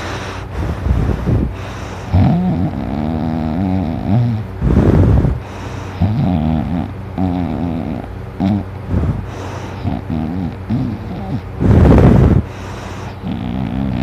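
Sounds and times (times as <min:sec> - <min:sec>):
person snoring loudly: 0:00.0 - 0:14.0.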